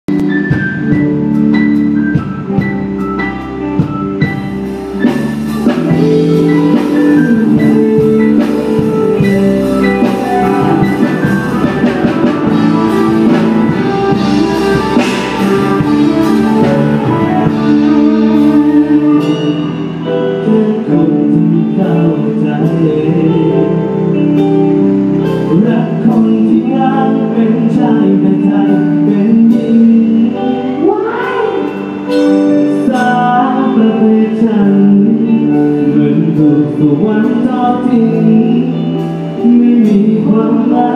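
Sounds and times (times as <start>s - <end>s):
live band playing: 0.1s - 40.9s.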